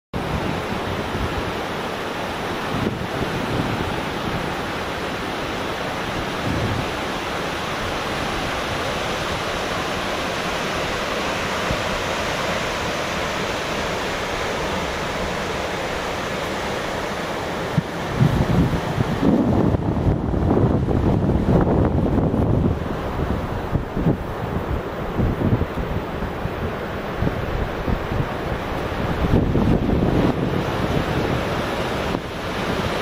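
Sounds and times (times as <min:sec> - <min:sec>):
ocean surf breaking: 0:00.2 - 0:33.0
wind buffeting microphone: 0:02.6 - 0:16.1, 0:17.6 - 0:33.0.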